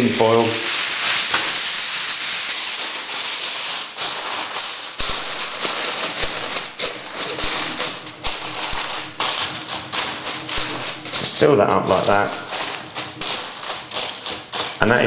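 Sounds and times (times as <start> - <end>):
kitchen foil crinkling: 0.0 - 15.0.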